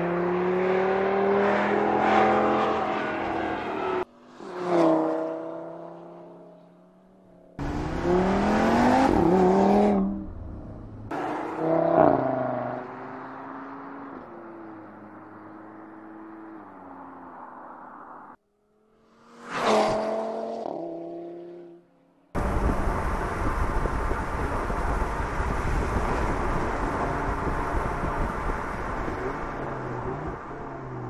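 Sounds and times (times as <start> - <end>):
wind and road noise: 0.0 - 31.0.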